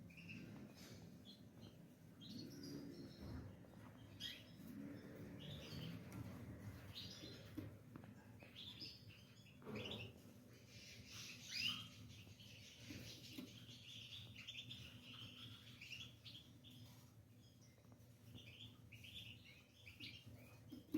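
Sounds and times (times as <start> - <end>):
canary chirping and trilling: 0.0 - 20.9.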